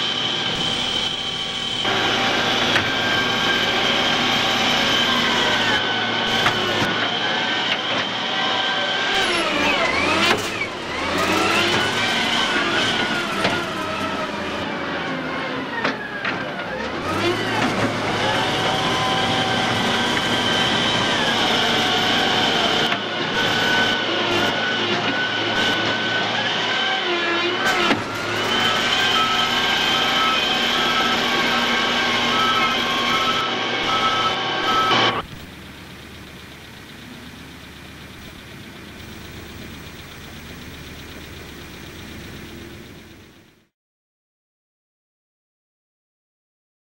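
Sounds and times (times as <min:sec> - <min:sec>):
reversing beeper: 0:00.0 - 0:43.6
heavy vehicle engines running: 0:00.0 - 0:43.7.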